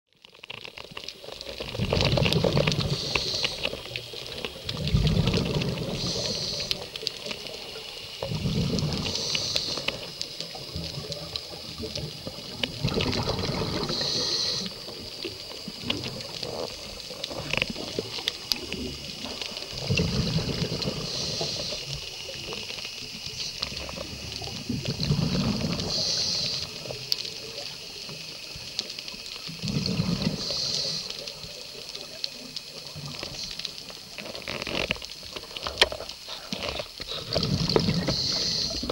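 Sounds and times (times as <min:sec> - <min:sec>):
exhaled bubbles gushing: 0:01.2 - 0:38.9
regulator hiss on inhale: 0:02.0 - 0:38.9.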